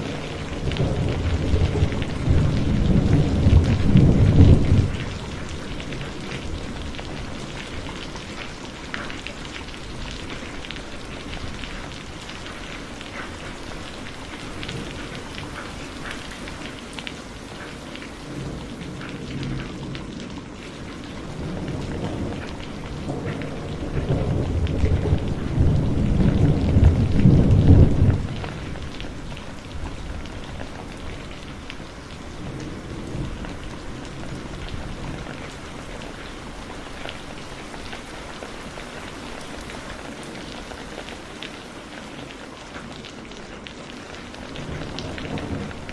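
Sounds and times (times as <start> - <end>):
thunder rumbling: 0.0 - 42.5, 43.9 - 45.9
heavy rain falling: 0.0 - 45.9
raindrops ticking on surfaces: 0.0 - 45.9.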